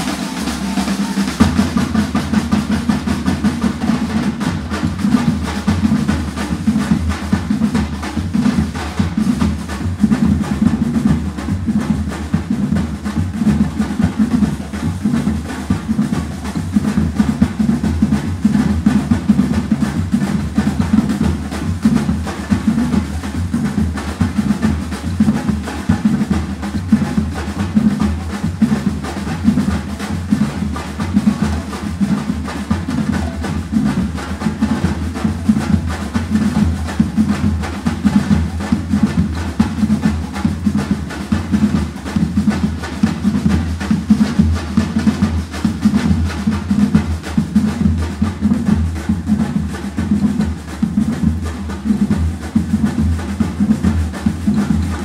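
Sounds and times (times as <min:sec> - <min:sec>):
bass drums: 0:00.0 - 0:55.0
snare drums: 0:00.0 - 0:55.0.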